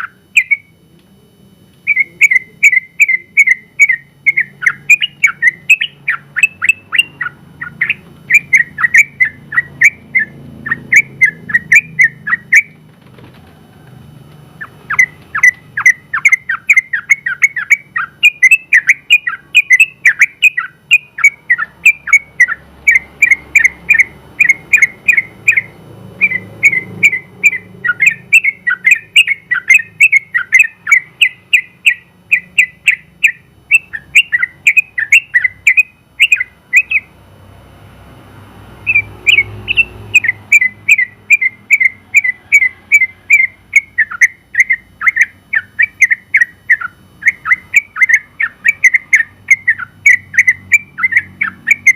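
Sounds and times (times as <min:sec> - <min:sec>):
bird chirping song: 0:00.0 - 0:37.2, 0:38.7 - 0:51.9
faint low hum: 0:00.0 - 0:51.9.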